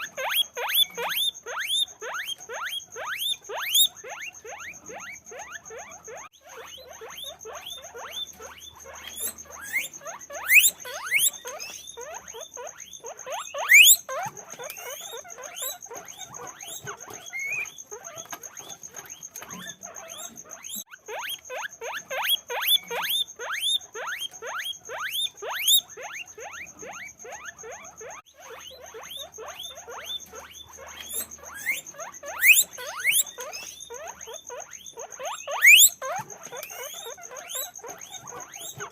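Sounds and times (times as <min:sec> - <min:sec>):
guinea pigs squeaking: 0:00.0 - 0:38.9.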